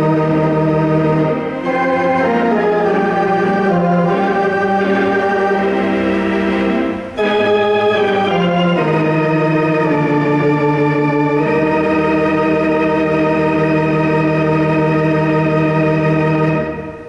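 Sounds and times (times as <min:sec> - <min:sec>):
deep bass organ note: 0:00.0 - 0:17.0
theatre organ chords: 0:00.0 - 0:17.0.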